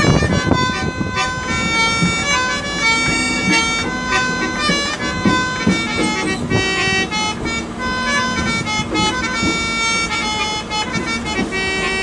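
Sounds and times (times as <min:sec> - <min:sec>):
harmonium playing a melody: 0:00.0 - 0:12.0.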